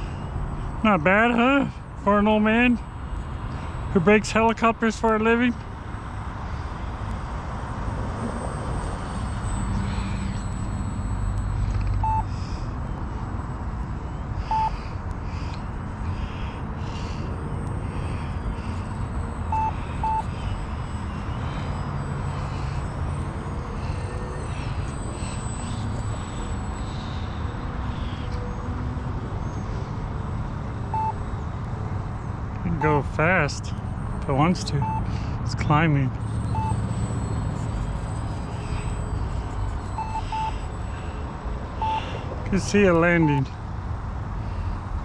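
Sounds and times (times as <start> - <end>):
short electronic beeps: 0.0 - 28.8, 30.8 - 43.6
electric motor whine: 0.0 - 45.0.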